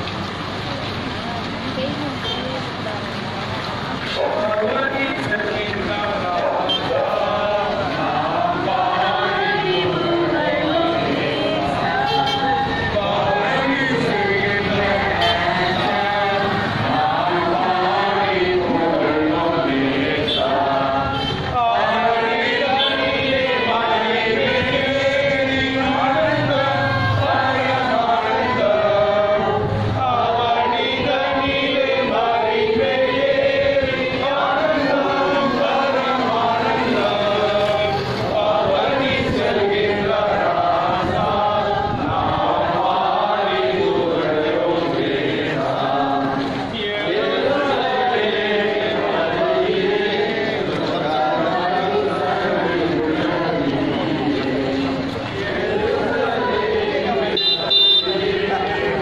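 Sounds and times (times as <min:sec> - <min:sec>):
crowd singing a hymn: 0:00.0 - 0:00.6, 0:03.2 - 0:59.0.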